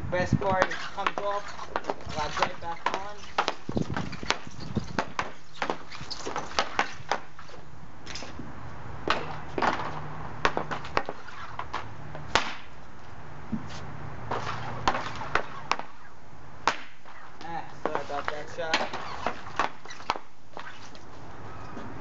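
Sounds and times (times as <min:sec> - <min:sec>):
hockey stick striking pucks: 0:00.4 - 0:08.4, 0:09.0 - 0:12.7, 0:14.3 - 0:21.1.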